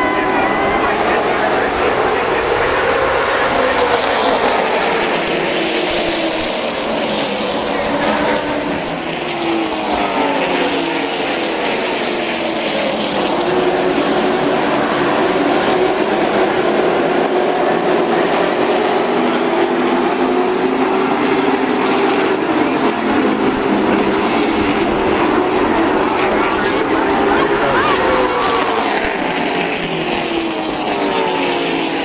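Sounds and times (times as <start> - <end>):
racing car engines: 0.0 - 32.0.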